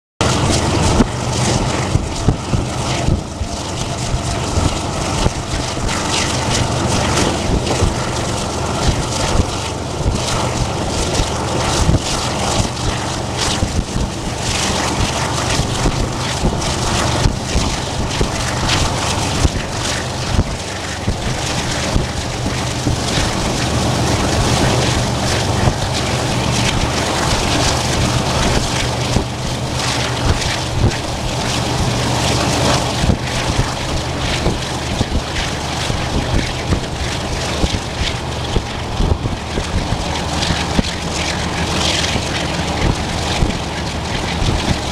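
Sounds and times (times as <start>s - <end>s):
train rumbling and rattling: 0.2s - 44.9s
wind on microphone: 0.2s - 44.9s.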